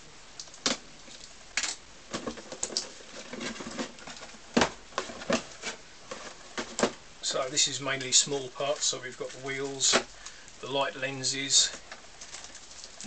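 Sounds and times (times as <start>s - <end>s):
plastic bags crinkling: 0.4s - 7.0s, 7.7s - 10.7s, 11.3s - 13.0s.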